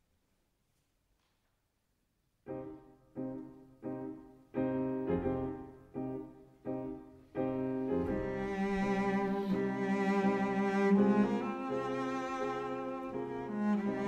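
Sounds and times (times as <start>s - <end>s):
slow piano music: 2.5s - 14.0s.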